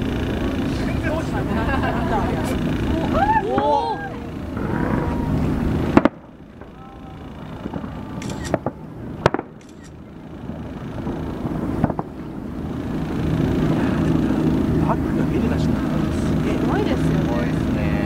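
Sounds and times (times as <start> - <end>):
fireworks bursting: 0.0 - 18.0
low steady rumble: 0.0 - 18.0.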